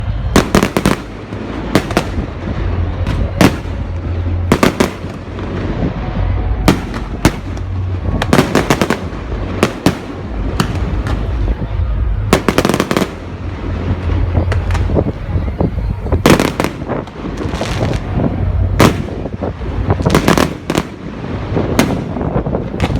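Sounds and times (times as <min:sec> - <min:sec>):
continuous low rumble: 0:00.0 - 0:22.9
fireworks bangs: 0:00.0 - 0:22.9.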